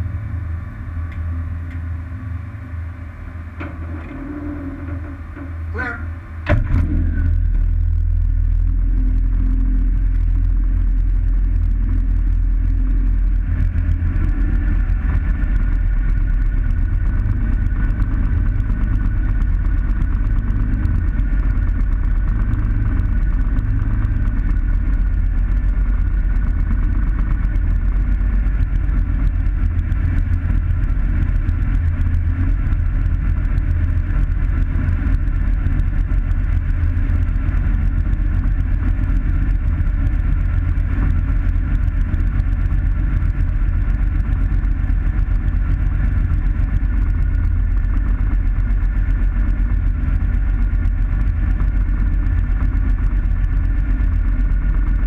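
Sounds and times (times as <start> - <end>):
propeller aircraft engine idling: 0.0 - 55.0.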